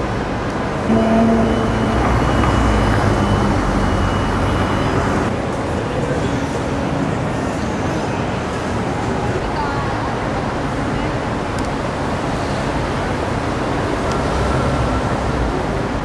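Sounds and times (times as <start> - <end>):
city street traffic rumbling: 0.0 - 16.0.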